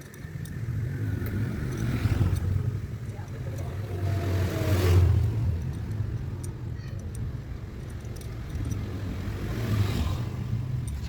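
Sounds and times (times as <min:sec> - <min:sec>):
faint metallic clinks: 0:00.0 - 0:04.2, 0:04.9 - 0:09.4, 0:10.7 - 0:11.0.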